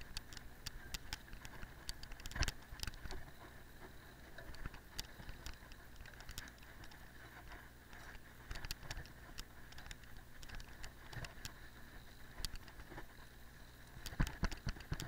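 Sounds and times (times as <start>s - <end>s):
bike clicks and rattles: 0.0s - 11.6s, 12.3s - 13.2s, 14.0s - 15.0s.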